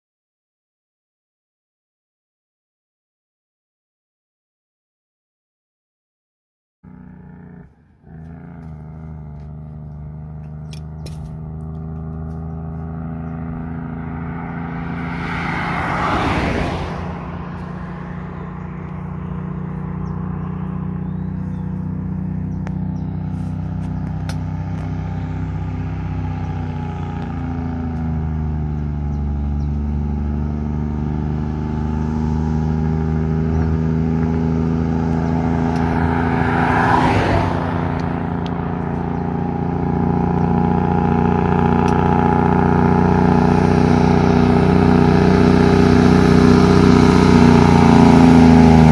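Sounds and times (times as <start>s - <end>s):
vehicles passing with whoosh: 6.9s - 48.9s.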